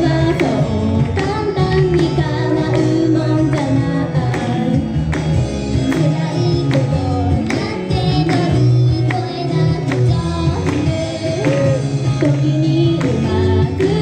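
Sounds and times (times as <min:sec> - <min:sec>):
girls singing pop song: 0:00.0 - 0:14.0.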